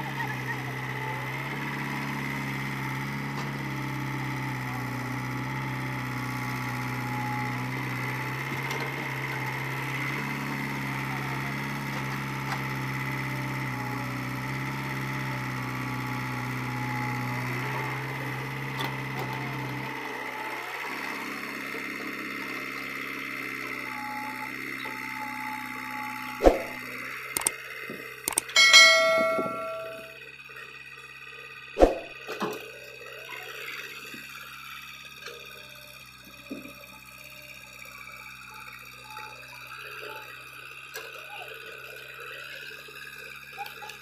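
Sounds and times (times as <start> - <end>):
excavator diesel engine running: 0.0 - 44.0
tractor idling: 0.0 - 44.0.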